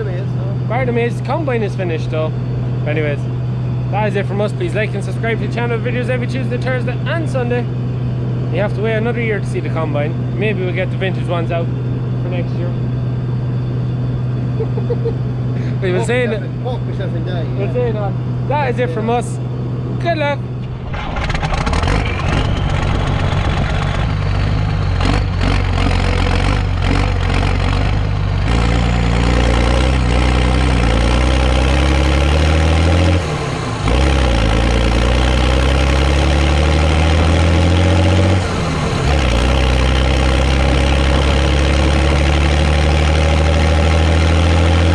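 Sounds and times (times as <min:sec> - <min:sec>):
tractor engine accelerating: 0:00.0 - 0:44.9.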